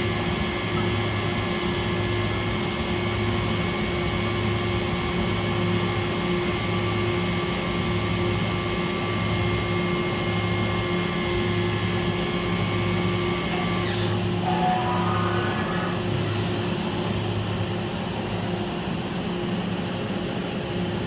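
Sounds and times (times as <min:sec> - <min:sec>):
machine hum: 0:00.0 - 0:19.3
high machine whine: 0:00.0 - 0:21.0.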